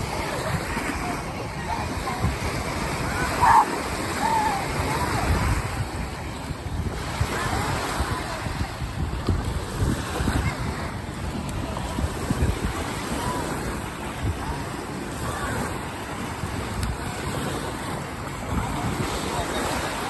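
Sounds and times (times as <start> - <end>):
faint voices: 0.0 - 20.0
waves lapping onto sandy beach: 0.0 - 20.0
wind buffeting microphone: 0.0 - 20.0.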